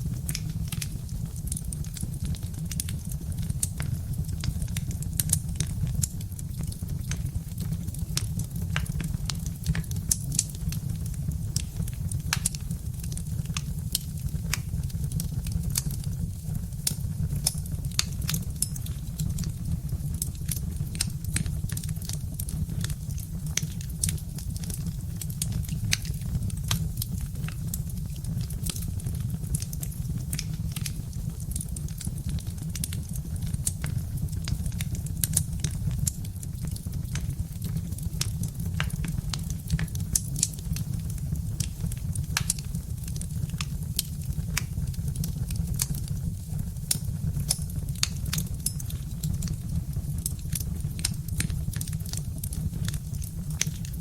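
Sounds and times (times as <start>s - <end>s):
log fire crackling and popping: 0.0s - 54.0s
low rumble of fire: 0.0s - 54.0s.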